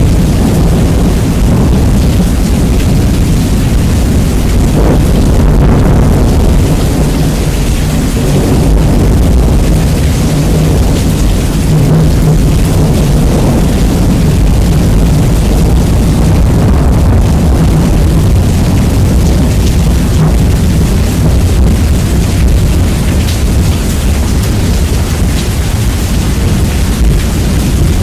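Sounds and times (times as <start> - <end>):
distorted rumbling thunder: 0.0 - 28.0
rain hiss: 0.0 - 28.0.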